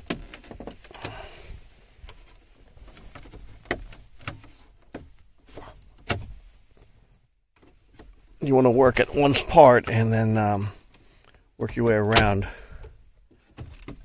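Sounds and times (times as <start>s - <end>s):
rubbing and handling noise: 0.0s - 12.4s.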